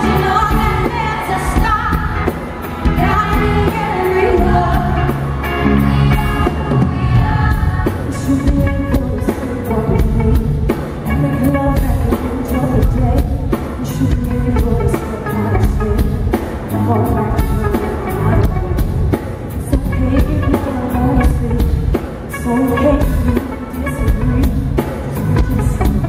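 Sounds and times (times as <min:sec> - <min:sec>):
soul band playing: 0:00.0 - 0:26.0.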